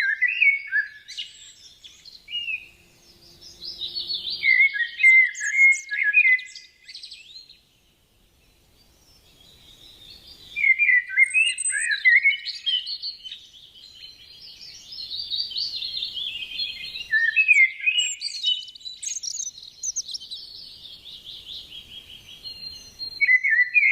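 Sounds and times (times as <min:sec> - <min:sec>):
songbird singing: 0:00.0 - 0:23.9.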